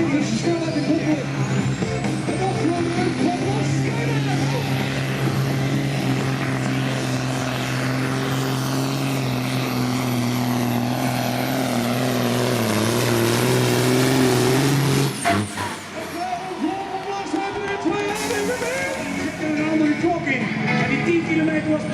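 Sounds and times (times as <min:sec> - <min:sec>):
truck engine droning under load: 0:00.0 - 0:21.9.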